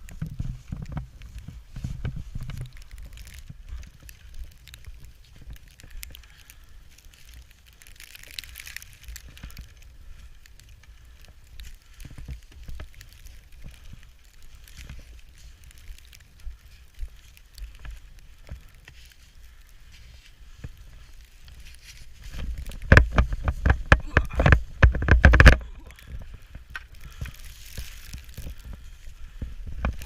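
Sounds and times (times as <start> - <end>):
snow crunching and scraping: 0.0 - 30.0.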